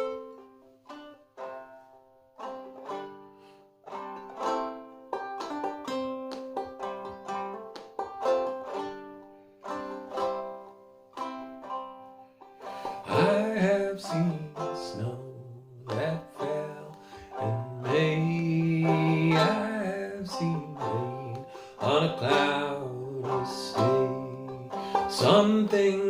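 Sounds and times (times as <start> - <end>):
clawhammer banjo playing: 0.0 - 26.0.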